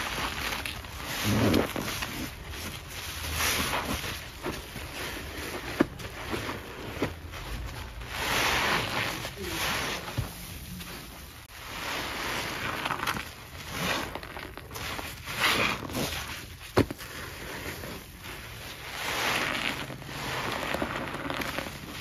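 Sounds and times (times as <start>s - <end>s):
wet squishing of paste: 0.0s - 22.0s.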